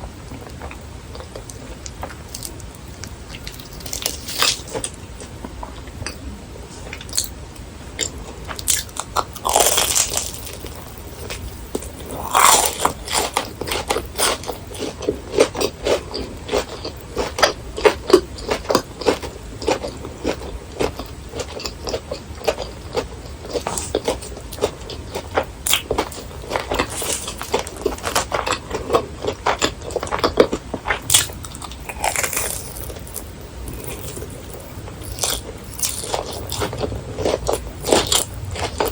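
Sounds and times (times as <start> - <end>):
crunchy chewing of fried food: 0.0 - 38.9.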